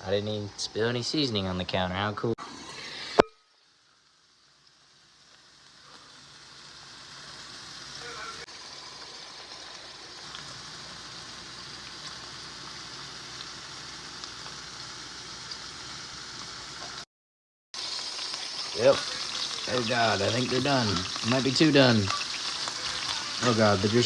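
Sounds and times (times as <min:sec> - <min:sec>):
meat sizzling in frying pan: 0:02.4 - 0:17.0, 0:17.8 - 0:24.0.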